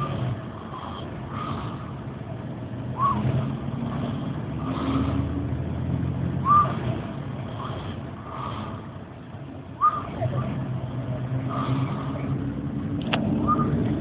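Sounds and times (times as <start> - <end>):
bus engine hum: 0.0 - 14.0.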